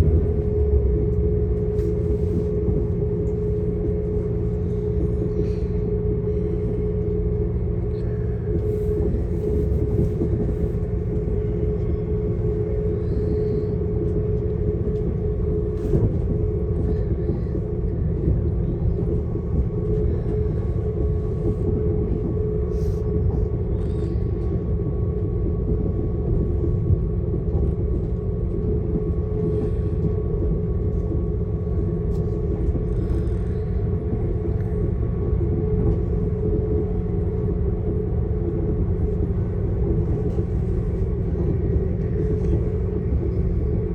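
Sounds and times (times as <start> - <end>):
constant hum: 0.0 - 43.9
train rumbling: 0.0 - 43.9.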